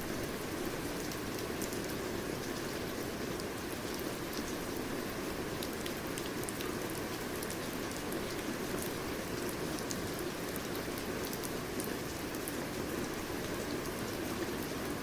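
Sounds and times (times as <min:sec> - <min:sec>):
steady rain falling: 0:00.0 - 0:15.0
raindrops ticking on a surface: 0:00.1 - 0:15.0.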